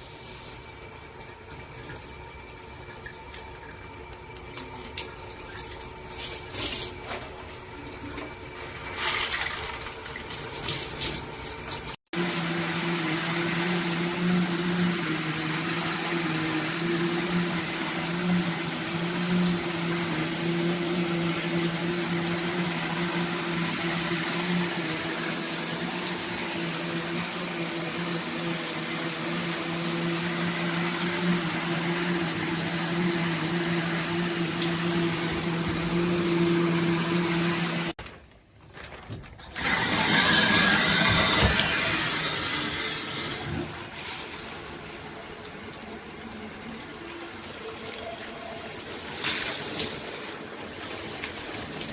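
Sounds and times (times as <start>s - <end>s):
shower spraying water: 0.0s - 38.0s, 39.6s - 51.9s.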